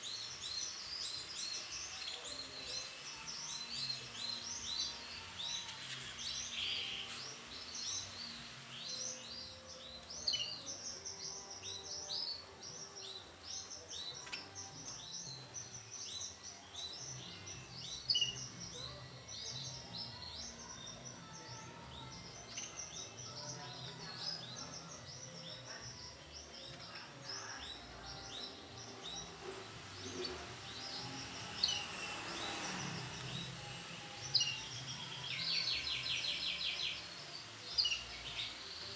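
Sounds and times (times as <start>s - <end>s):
canaries chirping: 0.0s - 38.9s.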